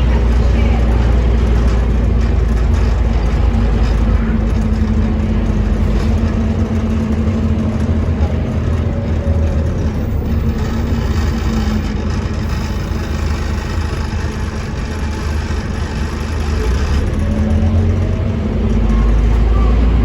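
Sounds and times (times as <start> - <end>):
bus diesel engine drone: 0.0 - 20.0
road noise: 0.0 - 20.0.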